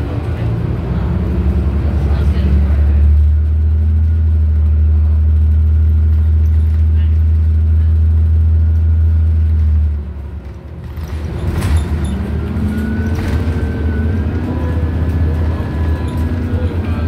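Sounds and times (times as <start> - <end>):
bus drivetrain and road noise: 0.0 - 17.0
loud low bus drone: 0.0 - 17.0.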